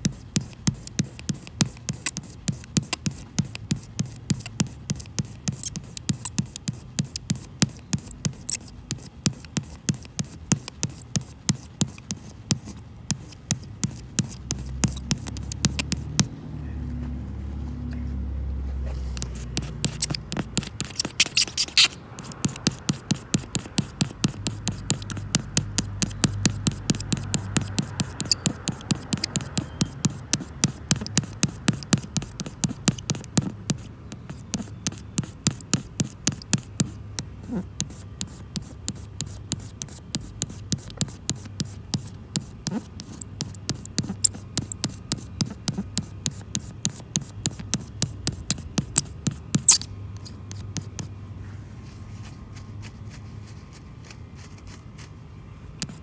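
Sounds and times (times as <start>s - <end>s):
rapid clicking scraping strokes: 0.0s - 16.3s, 19.1s - 51.1s.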